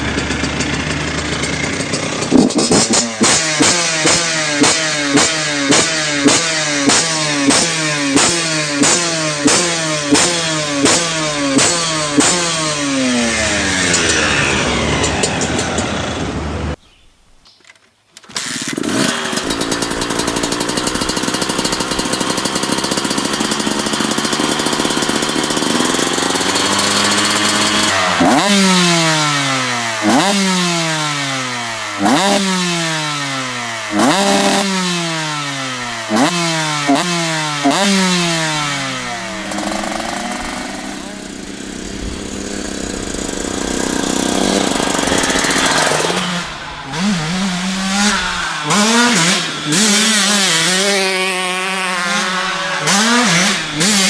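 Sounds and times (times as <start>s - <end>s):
dirt bike engines revving: 0.0s - 16.8s, 18.2s - 54.0s.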